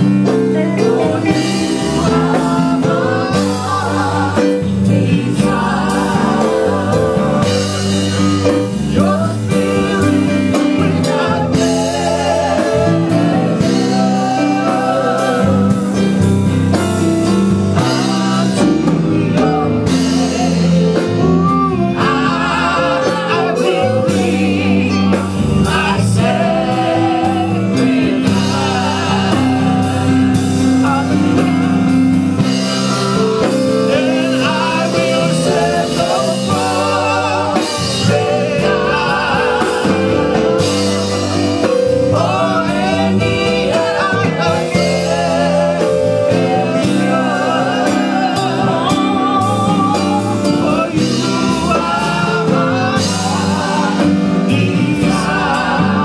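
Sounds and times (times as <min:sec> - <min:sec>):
electric keyboard: 0:00.0 - 0:56.0.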